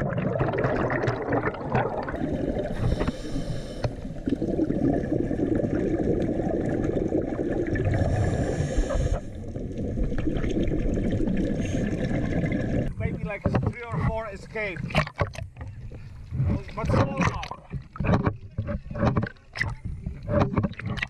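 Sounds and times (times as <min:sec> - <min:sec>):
underwater bubbles gurgling: 0:00.0 - 0:21.0.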